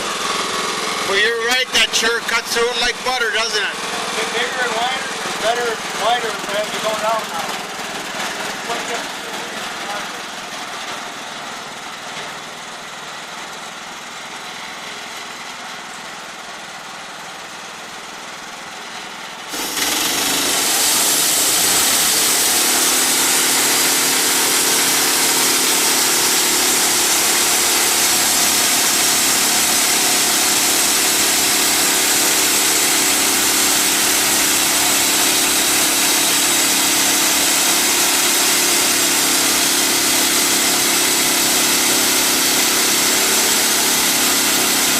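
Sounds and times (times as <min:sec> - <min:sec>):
bandsaw mill running: 0:00.0 - 0:44.9.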